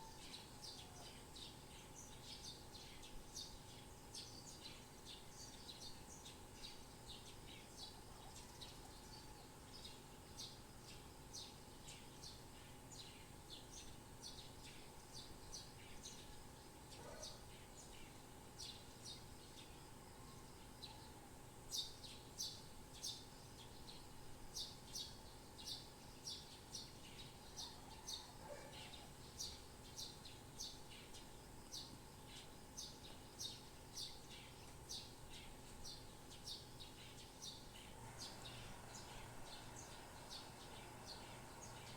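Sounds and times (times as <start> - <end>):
faint steady hum: 0.0 - 41.9
small birds chirping: 0.0 - 41.9.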